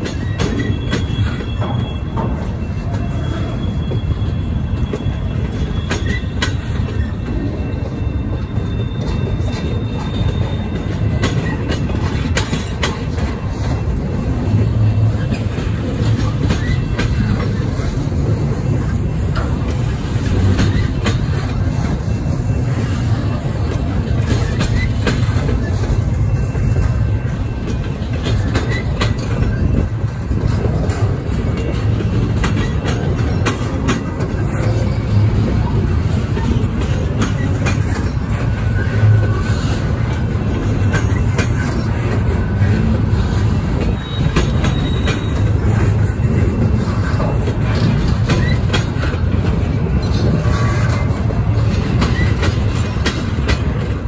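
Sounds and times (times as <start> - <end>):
high-pitched wheel squeal: 0.0 - 33.4, 34.0 - 49.2
freight train wheels rumbling: 0.0 - 54.0
wheels clicking over rail joints: 0.0 - 54.0.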